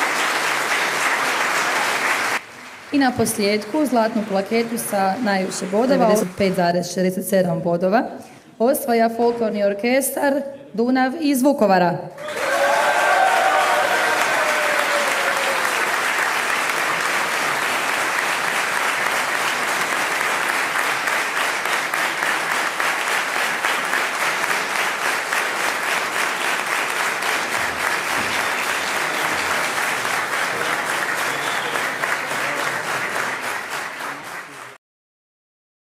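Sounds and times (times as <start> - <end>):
audience applause: 0.0 - 6.5, 12.2 - 34.8.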